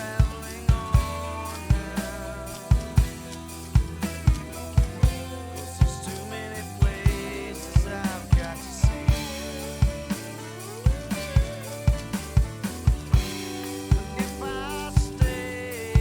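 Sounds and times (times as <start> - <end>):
drum kit playing: 0.0 - 16.0.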